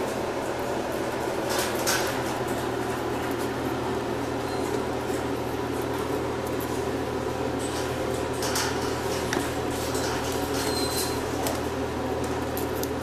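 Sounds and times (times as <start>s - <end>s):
mechanical fan hum: 0.0s - 13.0s.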